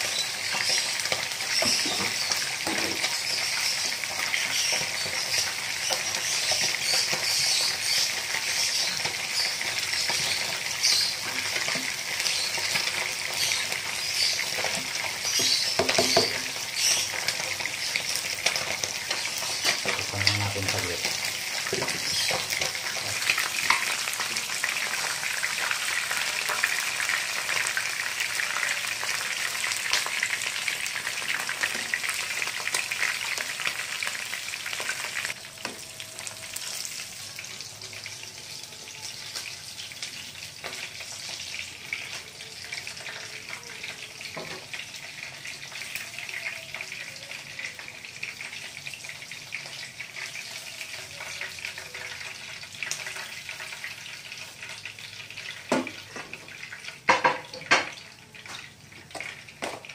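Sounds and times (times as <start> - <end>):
fish frying in oil: 0.0 - 59.9
pot of vegetables boiling: 0.0 - 59.9.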